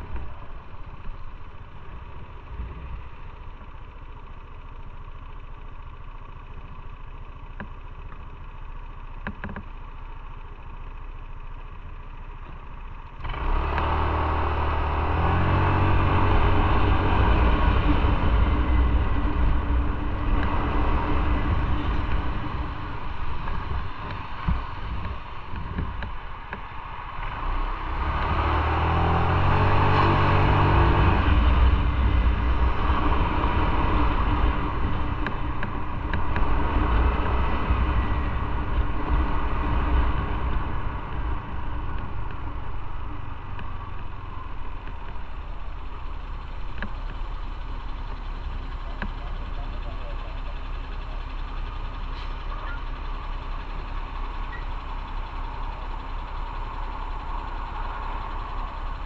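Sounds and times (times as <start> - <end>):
motorcycle engine accelerating: 0.0 - 9.8, 11.7 - 59.0
road and wind noise: 0.0 - 59.0.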